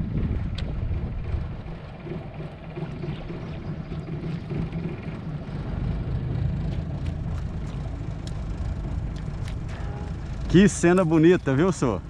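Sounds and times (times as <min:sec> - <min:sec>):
boat motor idling: 0:00.0 - 0:12.0.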